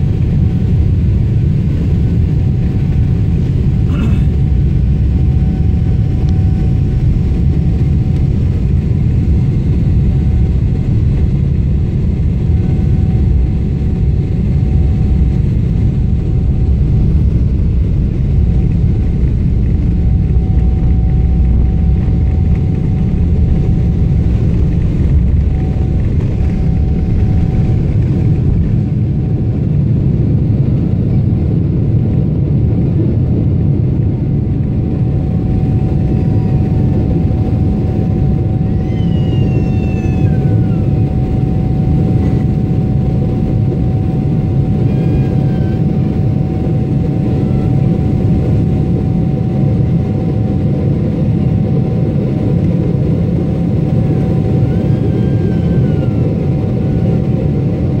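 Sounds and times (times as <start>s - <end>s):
constant engine whine: 0.0s - 58.0s
jet engine rumble in cabin: 0.0s - 58.0s.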